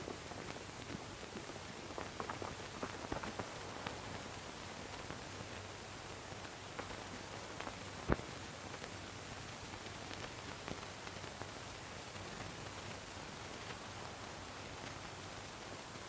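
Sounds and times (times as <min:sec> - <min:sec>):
crackles and pops: 0:00.0 - 0:16.0
film soundtrack hiss: 0:00.0 - 0:16.0.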